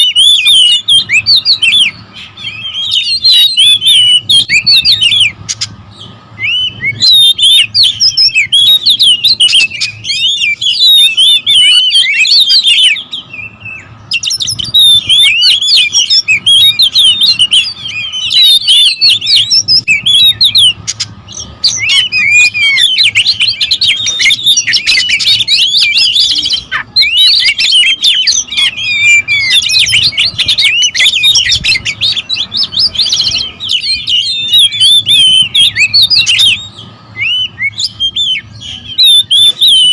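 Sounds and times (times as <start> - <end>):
birds singing and chattering: 0.0 - 39.9.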